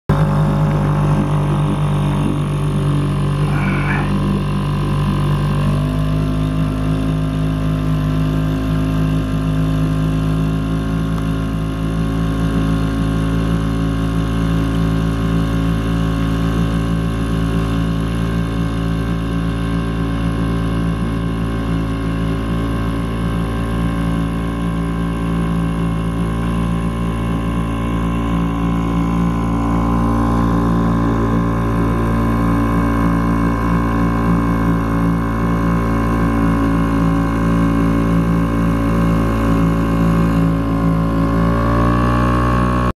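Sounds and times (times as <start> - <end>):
motorboat engine running: 0.0 - 42.9.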